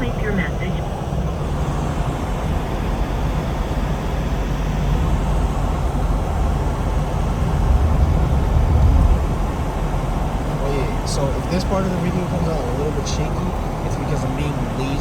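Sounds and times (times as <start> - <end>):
car engine rumble: 0.0 - 15.0
road noise inside car: 0.0 - 15.0.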